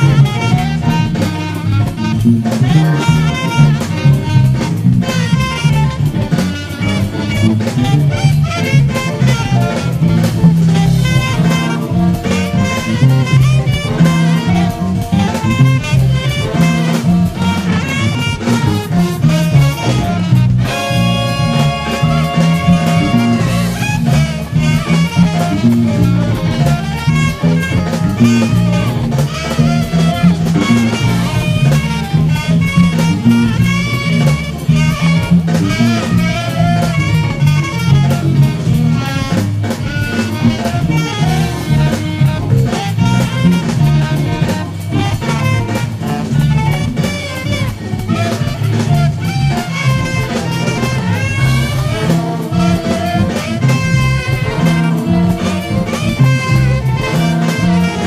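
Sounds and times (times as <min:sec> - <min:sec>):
drum kit: 0:00.0 - 0:58.0
electric bass line: 0:00.0 - 0:58.0
funk band music: 0:00.0 - 0:58.0
saxophone and horns: 0:00.0 - 0:58.0.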